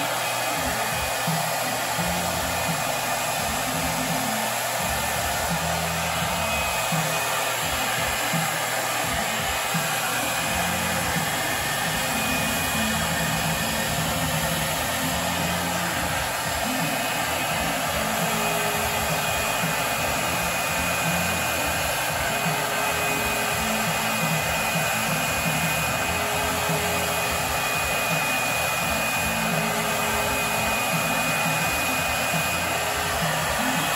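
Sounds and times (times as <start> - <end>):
paint sprayer hissing: 0.0 - 33.9.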